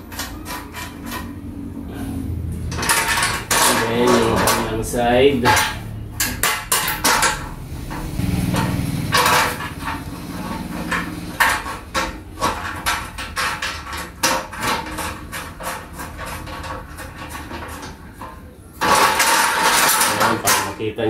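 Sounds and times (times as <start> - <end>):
metal clinks and knocks: 2.7 - 20.8.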